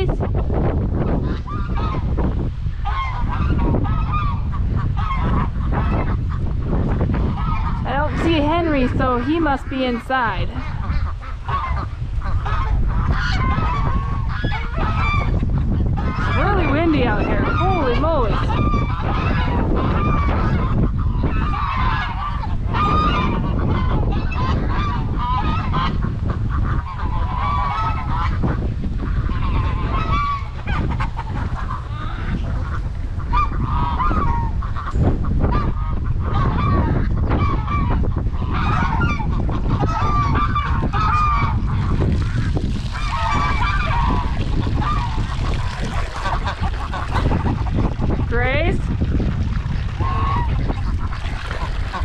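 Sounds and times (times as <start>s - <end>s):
wind buffeting microphone: 0.0s - 52.0s
geese honking: 1.1s - 52.0s.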